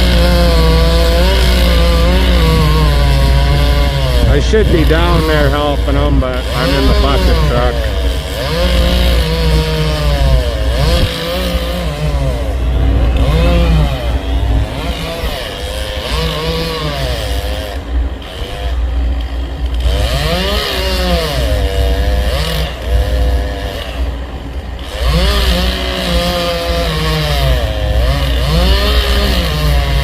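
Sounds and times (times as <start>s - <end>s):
chainsaw cutting wood: 0.0s - 30.0s
low engine drone: 0.0s - 30.0s.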